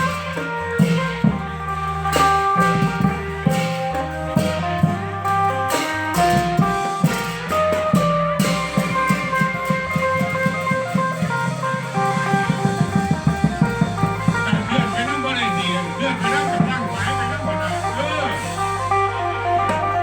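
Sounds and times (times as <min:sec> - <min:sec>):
bass line: 0:00.0 - 0:20.0
fast drum strikes: 0:00.0 - 0:20.0
plucked-string lead melody: 0:00.0 - 0:20.0.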